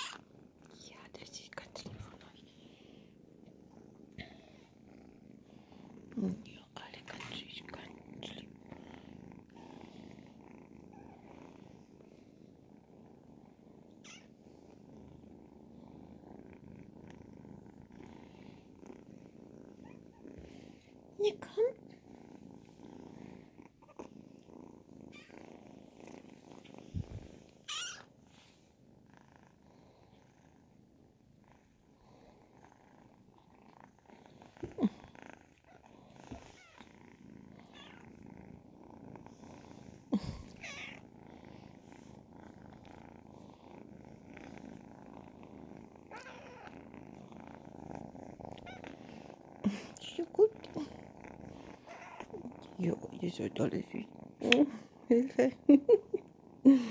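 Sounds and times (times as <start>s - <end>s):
kitten purring: 0.0s - 56.9s.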